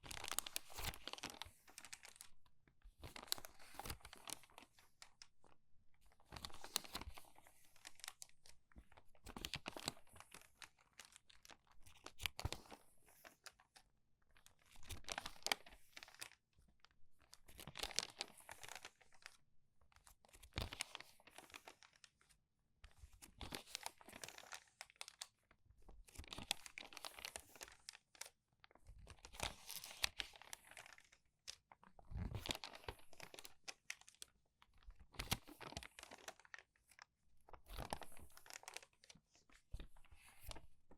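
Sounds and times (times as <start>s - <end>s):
crumpled paper pages turning: 0.0s - 2.3s, 3.0s - 5.3s, 6.1s - 13.8s, 14.4s - 16.4s, 17.2s - 19.4s, 20.0s - 22.3s, 23.0s - 40.9s.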